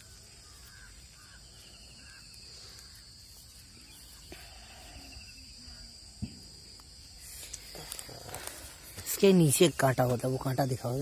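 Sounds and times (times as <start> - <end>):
faint chirps: 0.0 - 9.6
insects droning: 0.0 - 11.0.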